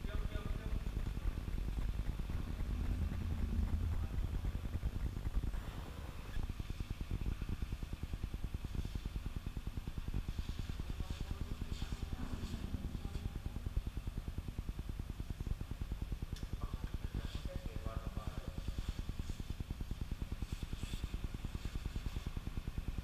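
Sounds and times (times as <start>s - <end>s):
pulsing mechanical rumble: 0.0s - 23.0s.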